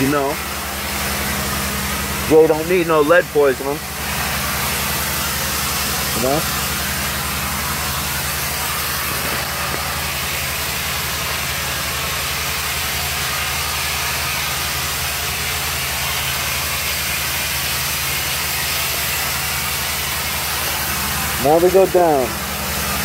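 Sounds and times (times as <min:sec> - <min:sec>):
airy hiss: 0:00.0 - 0:23.0
heavy machinery humming: 0:00.0 - 0:23.0.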